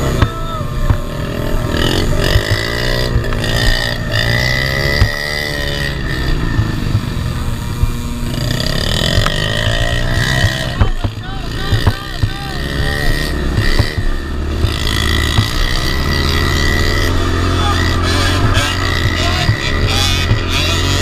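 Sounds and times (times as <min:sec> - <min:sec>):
dirt bike engine revving: 0:00.0 - 0:21.0
steady high whine: 0:00.0 - 0:21.0.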